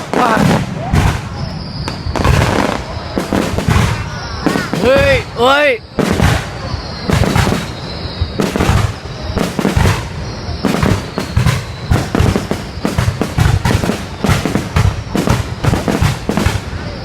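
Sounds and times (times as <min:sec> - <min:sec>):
fireworks booming and banging: 0:00.0 - 0:17.0
fireworks crackling: 0:00.0 - 0:17.0.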